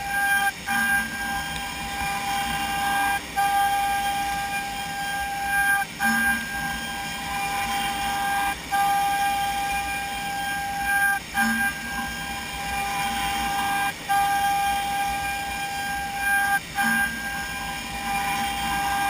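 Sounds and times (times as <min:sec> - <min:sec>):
router spindle whining: 0:00.0 - 0:19.0.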